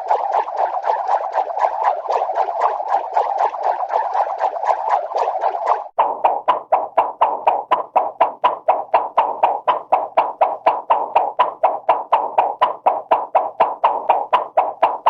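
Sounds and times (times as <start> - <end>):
cartoon twirling swishes: 0.0 - 15.0.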